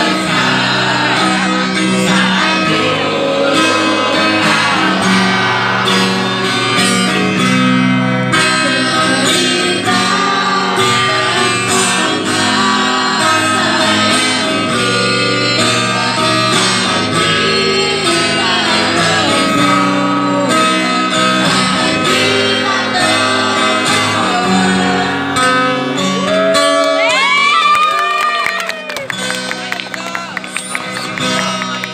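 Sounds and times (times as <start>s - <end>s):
person singing slow song: 0.0s - 27.2s
acoustic guitar: 0.0s - 31.9s.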